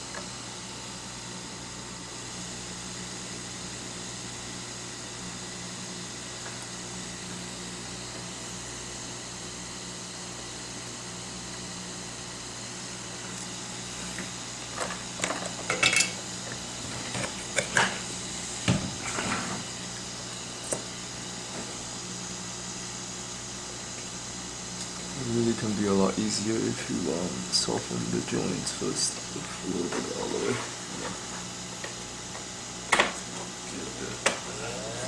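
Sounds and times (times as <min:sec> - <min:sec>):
hot-air station fan whirring: 0:00.0 - 0:35.0.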